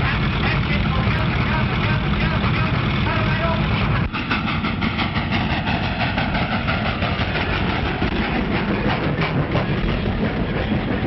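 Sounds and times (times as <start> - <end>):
vehicle engine chugging: 0.0 - 11.0.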